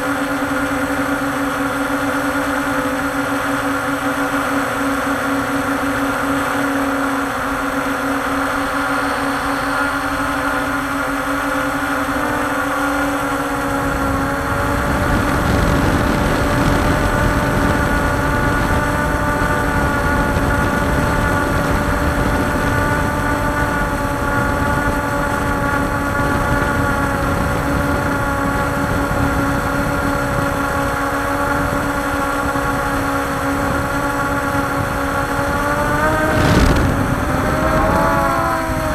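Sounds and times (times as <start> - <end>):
quadcopter motors whining: 0.0 - 38.9
wind rumble on microphone: 0.0 - 38.9.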